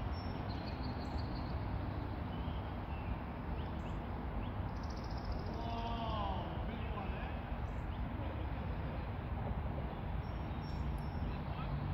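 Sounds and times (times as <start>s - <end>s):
outdoor background noise: 0.0s - 11.9s.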